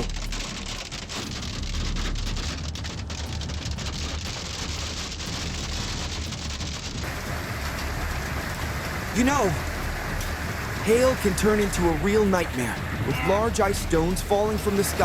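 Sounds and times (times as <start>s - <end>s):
hailstones pelting hard surfaces: 0.0s - 15.0s
low rumble: 0.0s - 15.0s.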